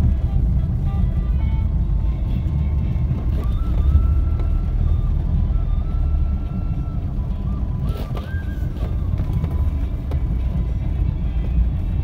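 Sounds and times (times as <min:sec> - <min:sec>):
background music: 0:00.0 - 0:12.0
car engine and tyres rumble: 0:00.0 - 0:12.0.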